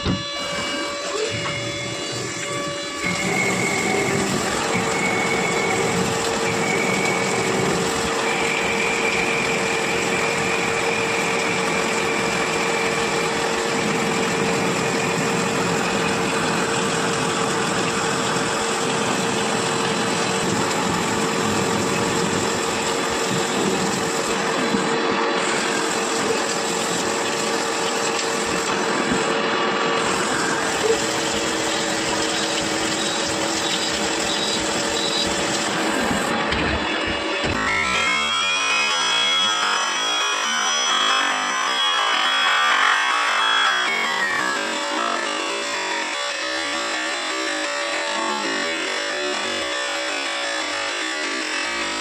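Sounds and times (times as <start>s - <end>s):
higher whine: 0.0s - 26.3s, 27.1s - 52.0s
lathe machining steel: 0.0s - 52.0s.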